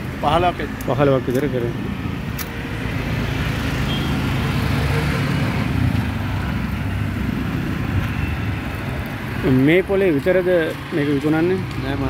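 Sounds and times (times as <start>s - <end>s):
road traffic engines humming: 0.0s - 12.0s.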